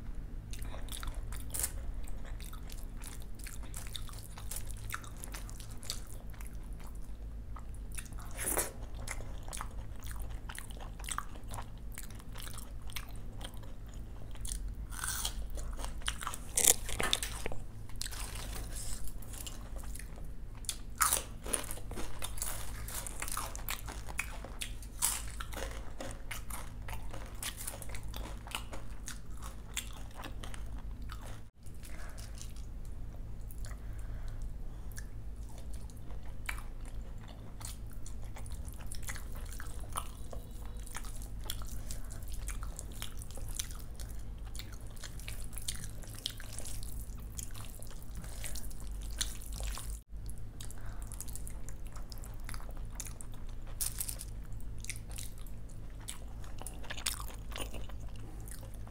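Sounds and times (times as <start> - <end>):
crunchy chewing of fried snacks: 0.4 - 58.9.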